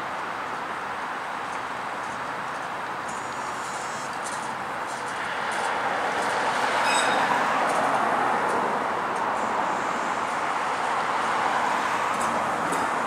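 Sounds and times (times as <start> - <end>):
streetcar wheels rumbling on rail: 0.0 - 13.0.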